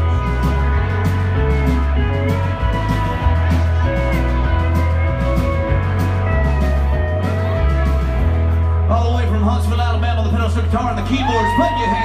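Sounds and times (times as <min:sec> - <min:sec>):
country rock band playing: 0:00.0 - 0:12.0.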